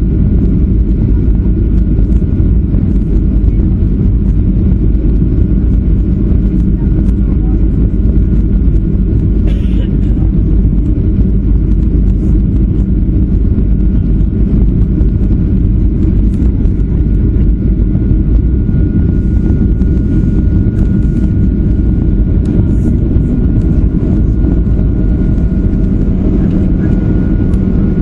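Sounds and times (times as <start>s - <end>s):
airliner engines rumbling in cabin: 0.0s - 28.0s
faint steady whine: 0.0s - 28.0s.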